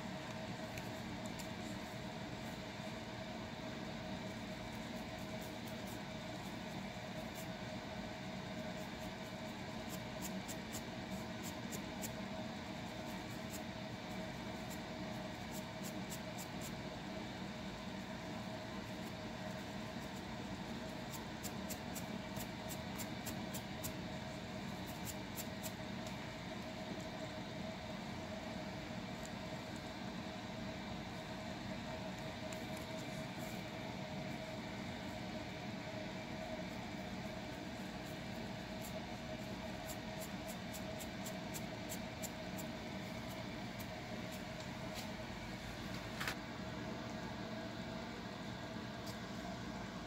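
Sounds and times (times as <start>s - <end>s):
background hiss and hum: 0.0s - 50.0s.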